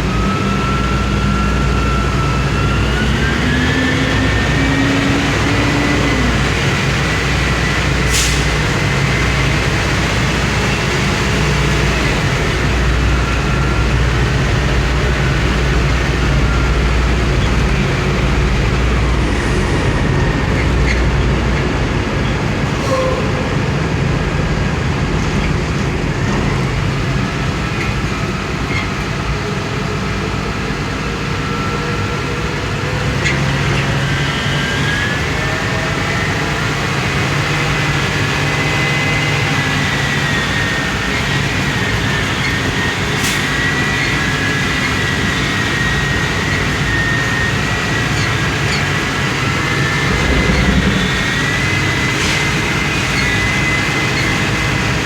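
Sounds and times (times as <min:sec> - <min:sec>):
truck engine humming and whining: 0:00.0 - 0:55.0.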